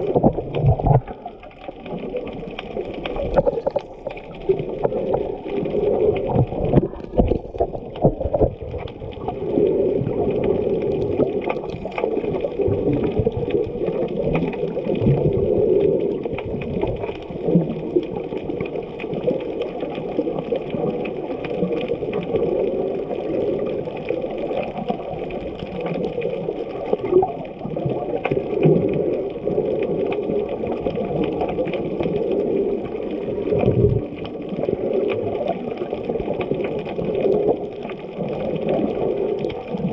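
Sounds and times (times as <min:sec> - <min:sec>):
water sloshing underwater: 0:00.0 - 0:39.9.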